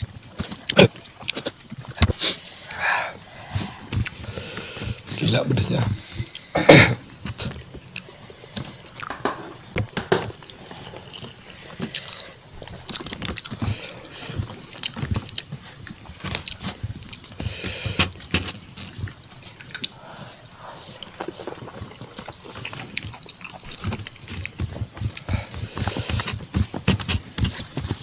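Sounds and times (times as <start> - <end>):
wet chewing and slurping: 0.0 - 28.0.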